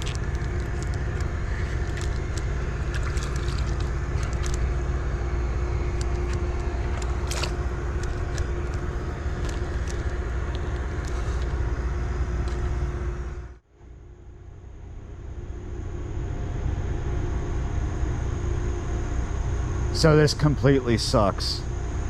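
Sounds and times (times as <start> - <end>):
ferry machinery humming: 0.0 - 22.0.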